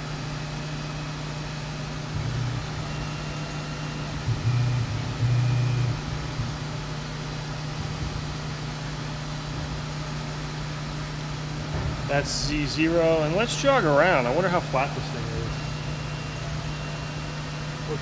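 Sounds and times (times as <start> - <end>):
machine hum: 0.0 - 18.0
mill axis drive droning: 0.0 - 18.0.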